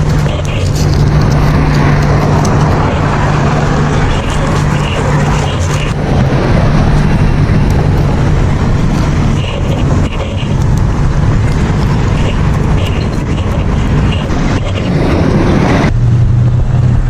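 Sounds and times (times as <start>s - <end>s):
road traffic: 0.0s - 17.0s
vehicle engine humming: 0.0s - 17.0s
wind noise: 0.0s - 17.0s.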